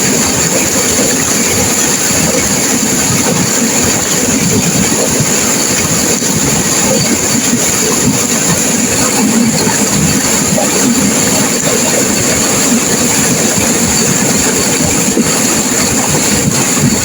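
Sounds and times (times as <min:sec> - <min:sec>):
river water rushing over rocks: 0:00.0 - 0:17.0.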